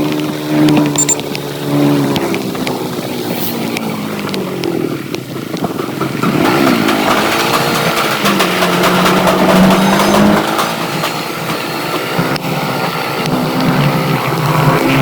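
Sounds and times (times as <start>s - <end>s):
motorcycle engine revving: 0.3s - 15.0s.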